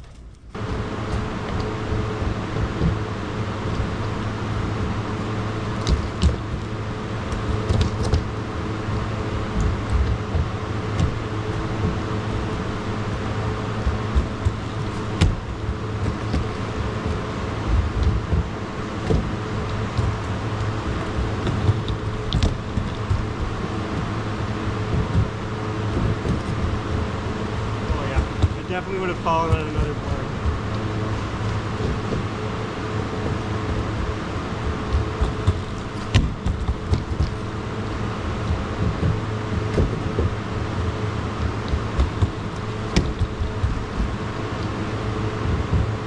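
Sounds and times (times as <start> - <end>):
skateboard wheels rolling on wood: 0.5 - 46.0.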